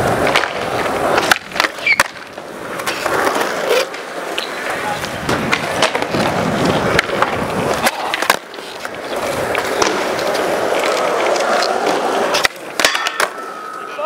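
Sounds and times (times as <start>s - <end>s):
skateboard clacks: 0.0s - 14.0s
skateboard wheels rolling on concrete: 0.0s - 14.0s.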